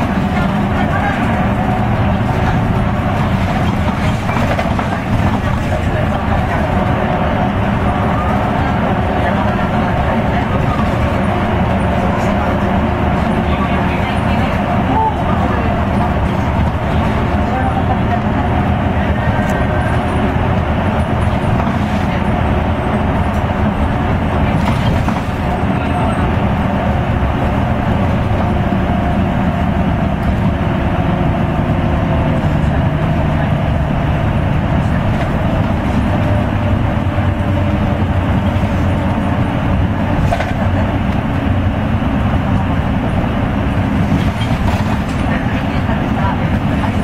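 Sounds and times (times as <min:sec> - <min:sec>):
bus engine drone: 0:00.0 - 0:47.0
road and tyre noise: 0:00.0 - 0:47.0.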